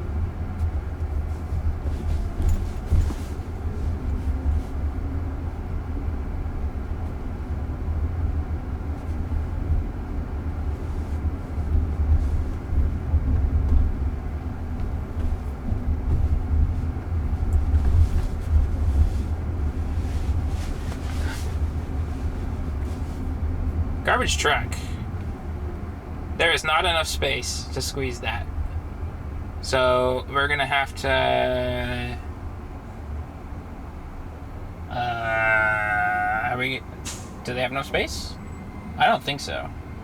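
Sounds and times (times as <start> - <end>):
road rumble and tyre noise: 0.0 - 40.0.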